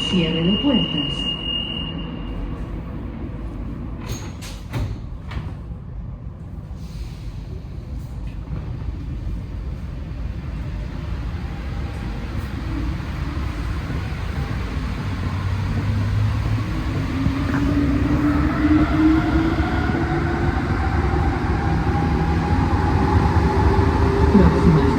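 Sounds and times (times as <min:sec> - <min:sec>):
metro train running rumble: 0:00.0 - 0:24.9.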